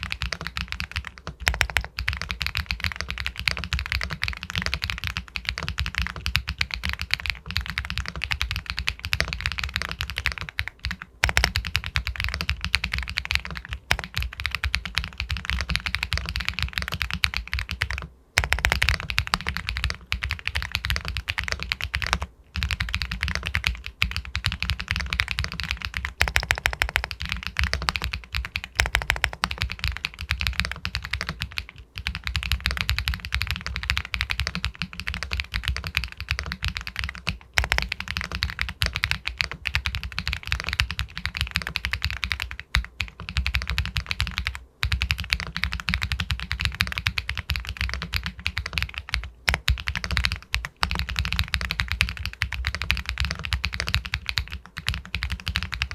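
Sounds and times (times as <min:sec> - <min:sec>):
mechanical keyboard typing: 0:00.0 - 0:55.9.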